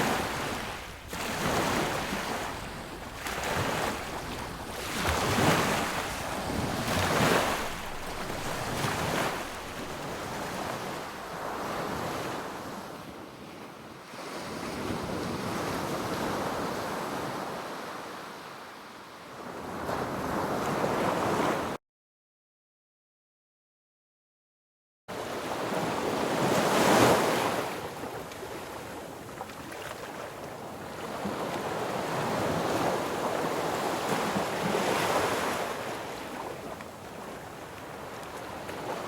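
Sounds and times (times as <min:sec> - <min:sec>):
sea waves breaking on a beach: 0:00.0 - 0:21.8, 0:25.1 - 0:39.0.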